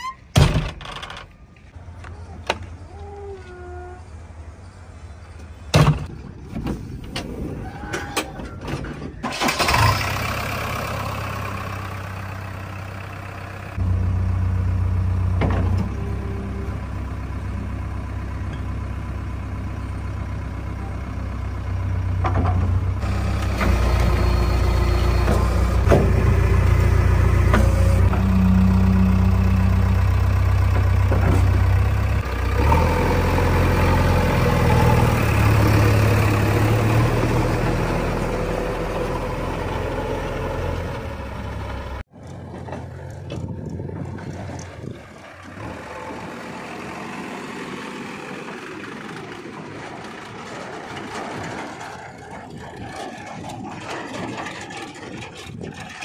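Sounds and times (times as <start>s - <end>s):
diesel engine running: 1.6s - 56.0s.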